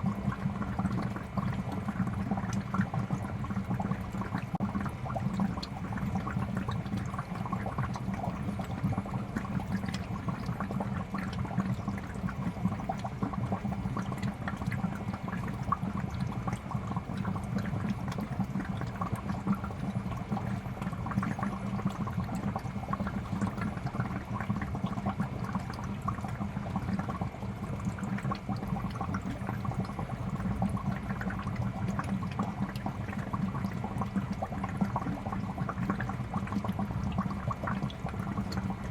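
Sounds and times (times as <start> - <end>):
fish tank water bubbling: 0.1 - 38.9.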